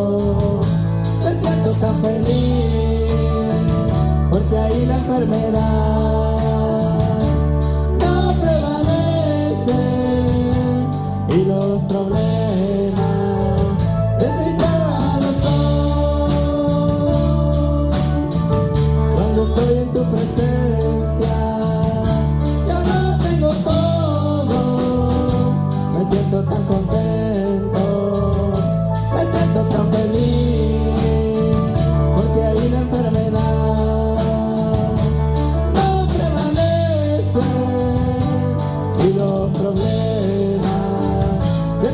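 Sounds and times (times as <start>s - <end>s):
person singing: 0.0s - 41.9s
worship band playing: 0.0s - 41.9s.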